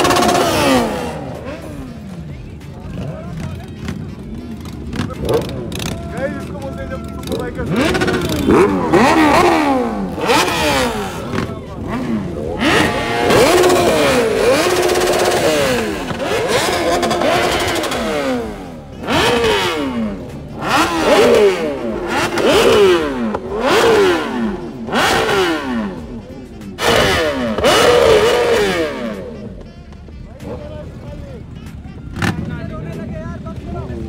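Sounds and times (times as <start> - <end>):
superbike engines revving: 0.0 - 34.0.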